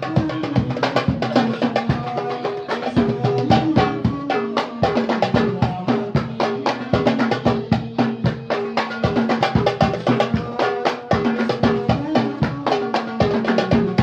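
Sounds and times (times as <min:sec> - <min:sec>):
goblet drums played fast: 0:00.0 - 0:14.0.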